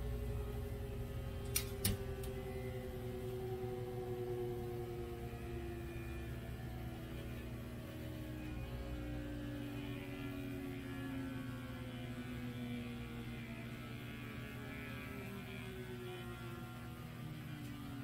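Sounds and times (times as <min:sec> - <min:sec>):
higher tones sinking in pitch: 0:00.0 - 0:18.0.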